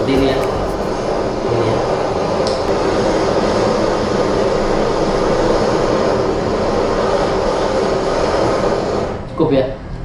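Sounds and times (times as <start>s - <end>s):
blowtorch flame hissing: 0.0s - 9.4s.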